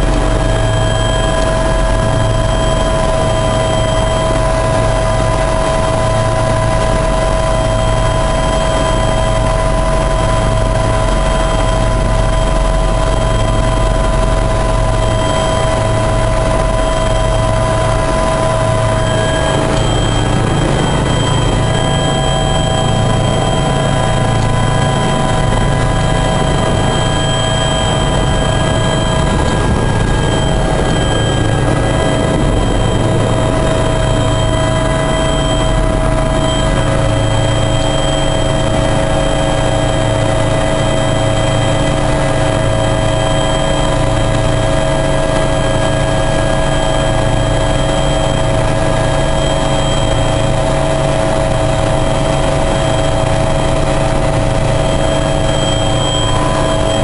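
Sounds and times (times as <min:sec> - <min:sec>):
helicopter turbine whine: 0:00.0 - 0:57.0
pulsing rotor throb: 0:00.0 - 0:57.0.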